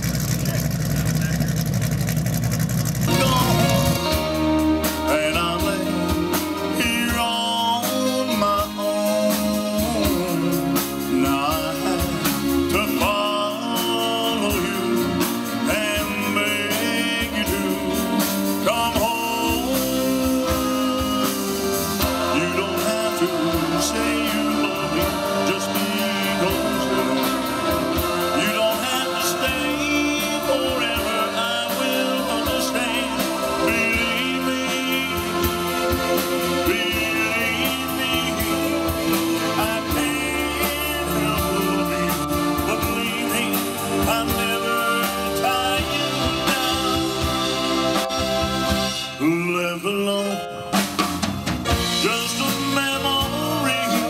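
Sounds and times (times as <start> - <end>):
live band playing: 0.0 - 54.0
person singing: 3.1 - 48.1, 48.9 - 50.8, 51.7 - 54.0.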